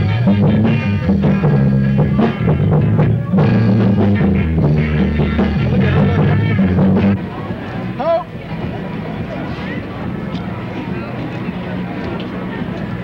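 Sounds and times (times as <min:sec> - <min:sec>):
rock band music: 0:00.0 - 0:11.5
bass guitar line: 0:00.0 - 0:13.0
drums keeping a steady beat: 0:00.0 - 0:13.0.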